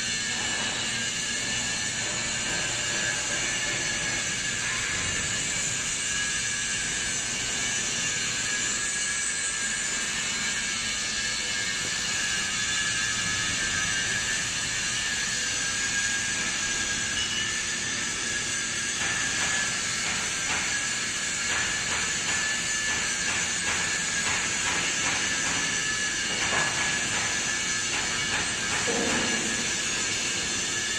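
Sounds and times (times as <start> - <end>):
hydraulic pump whine: 0.0 - 30.9.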